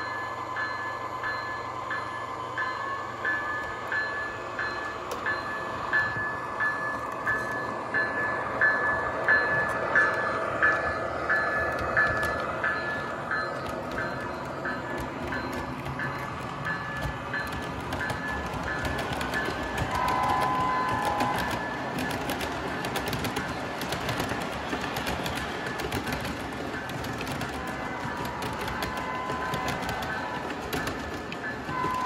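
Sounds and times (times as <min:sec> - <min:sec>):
model train rolling rumble: 0:02.6 - 0:32.0.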